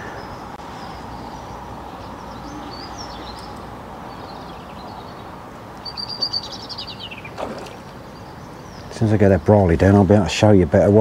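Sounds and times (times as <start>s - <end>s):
outdoor background hiss: 0.0s - 11.0s
songbirds singing: 0.0s - 11.0s.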